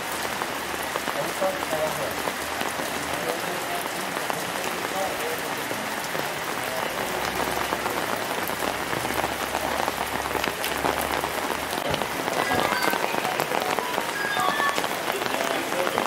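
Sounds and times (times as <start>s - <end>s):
raindrops ticking close by: 0.0s - 16.0s
steady rain falling: 0.0s - 16.0s.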